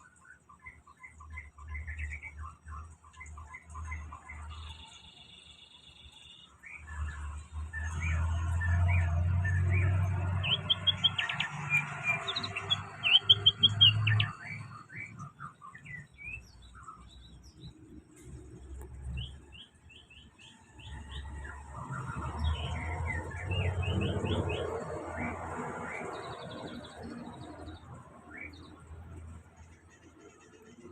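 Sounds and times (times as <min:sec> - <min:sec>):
songbird chirping and trilling: 0:00.0 - 0:30.9.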